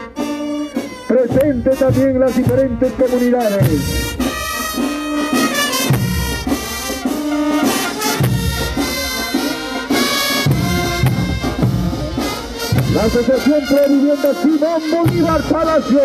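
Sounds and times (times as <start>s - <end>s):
marching brass band playing: 0.0s - 16.0s.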